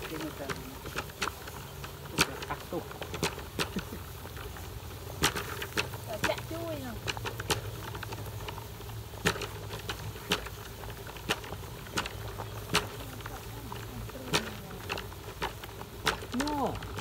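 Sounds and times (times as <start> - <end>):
sharp pops and crackles: 0.0 - 17.0
water boiling hard: 0.0 - 17.0.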